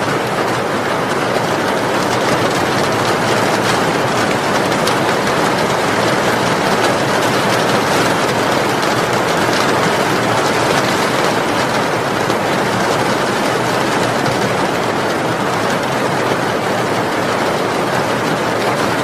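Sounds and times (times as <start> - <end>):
rain on a metal roof: 0.0 - 19.0.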